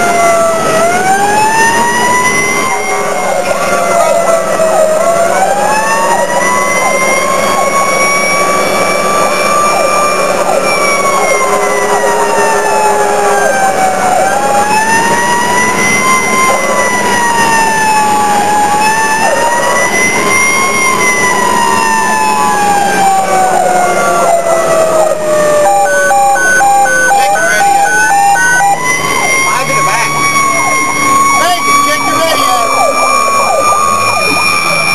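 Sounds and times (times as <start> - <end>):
fire engine siren wailing: 0.0 - 34.9.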